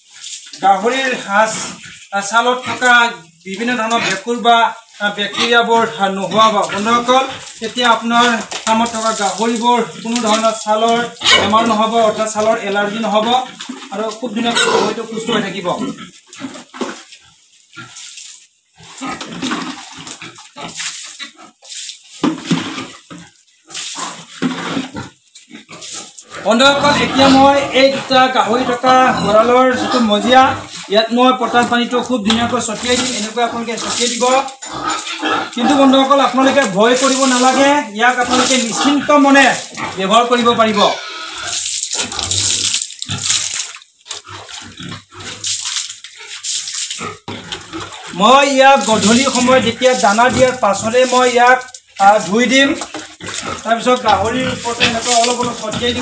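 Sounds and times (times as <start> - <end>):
water splashing on concrete: 0.0 - 40.8, 41.4 - 56.0
pigs grunting: 0.6 - 17.1, 18.8 - 21.6, 22.5 - 43.4, 44.1 - 45.6, 47.0 - 51.3, 52.1 - 56.0.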